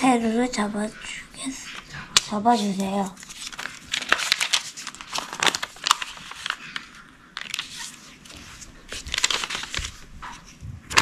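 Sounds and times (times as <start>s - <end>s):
paper rustling and crinkling: 1.6s - 11.0s.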